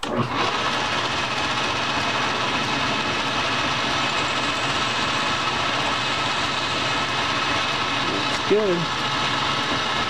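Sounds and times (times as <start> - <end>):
metal lathe whirring: 0.0 - 10.0.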